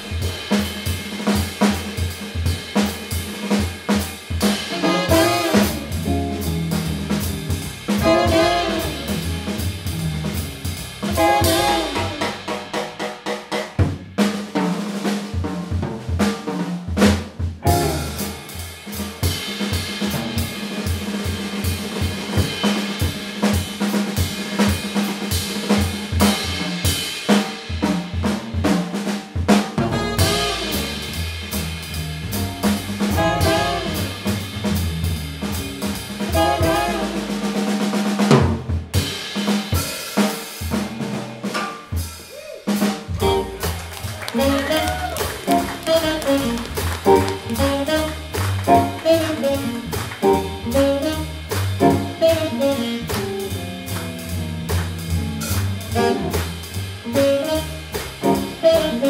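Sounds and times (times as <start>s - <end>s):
drum kit solo: 0.0s - 59.0s.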